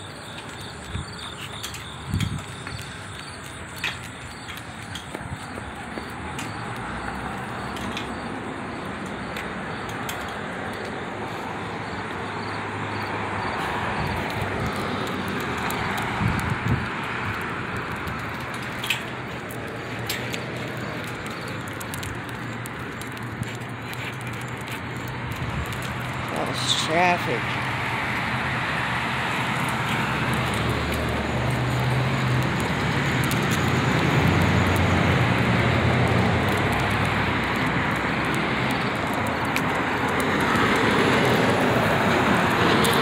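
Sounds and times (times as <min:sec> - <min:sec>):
passing cars rushing: 0:00.0 - 0:43.0.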